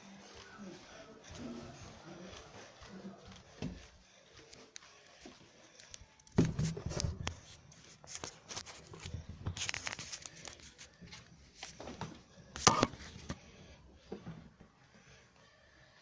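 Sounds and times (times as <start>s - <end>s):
clicking and crinkling supplies: 0.2s - 13.4s.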